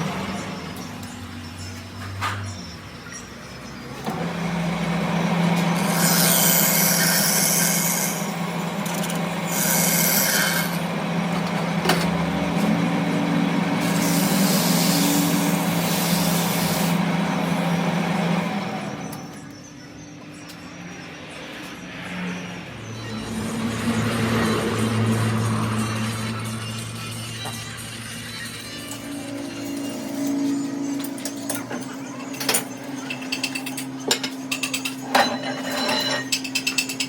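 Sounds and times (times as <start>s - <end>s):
machine humming: 3.8s - 37.0s.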